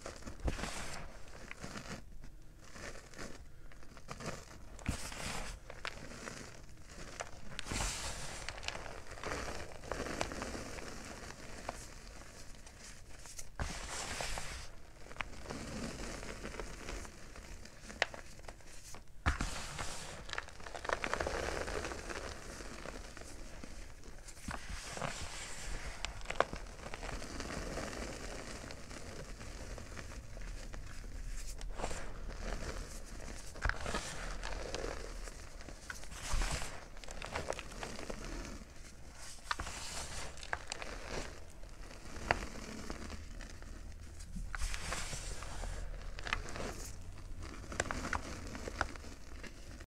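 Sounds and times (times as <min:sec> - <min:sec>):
chalk clumps crackling: 0:00.0 - 0:49.9
hands crunching chalk: 0:00.0 - 0:49.9.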